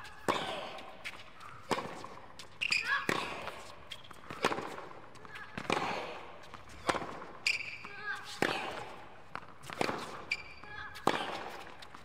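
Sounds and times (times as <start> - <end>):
tennis ball hit with racquets: 0.0 - 12.0.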